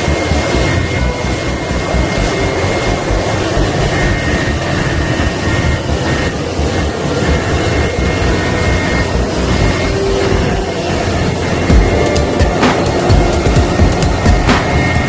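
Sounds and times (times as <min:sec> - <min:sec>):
helicopter running: 0:00.0 - 0:15.0.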